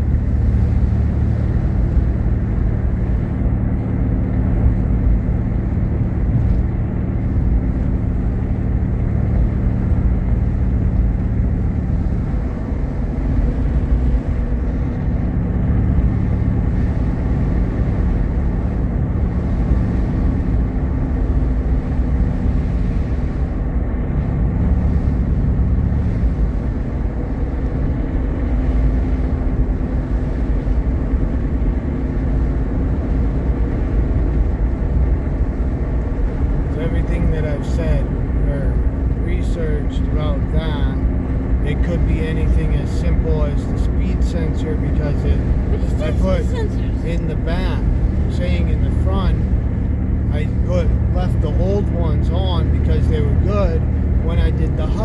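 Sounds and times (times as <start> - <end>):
vehicle engine and tyre rumble: 0.0 - 55.0.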